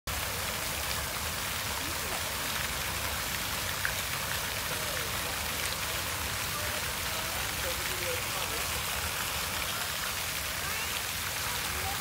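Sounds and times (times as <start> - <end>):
fountain splashing into pond: 0.1 - 12.0.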